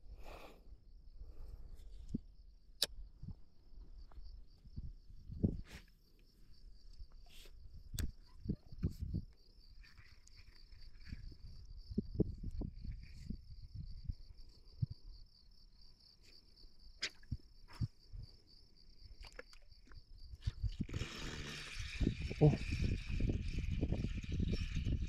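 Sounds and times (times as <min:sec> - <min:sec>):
crickets trilling: 0:00.1 - 0:25.0.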